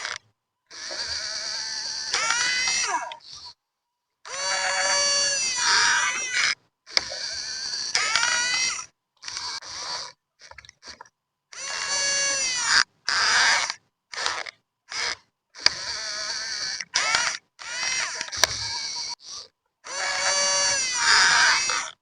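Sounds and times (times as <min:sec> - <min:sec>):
electric motors whining: 0:00.0 - 0:03.5, 0:04.3 - 0:09.8, 0:11.6 - 0:22.0.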